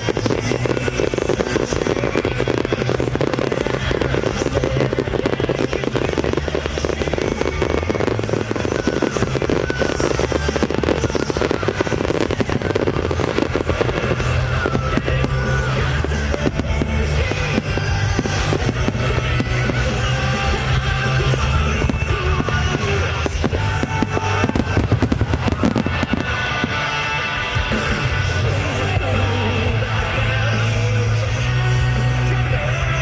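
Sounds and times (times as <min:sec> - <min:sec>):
fireworks crackling bangs: 0:00.0 - 0:33.0
loud music with bass: 0:00.0 - 0:33.0.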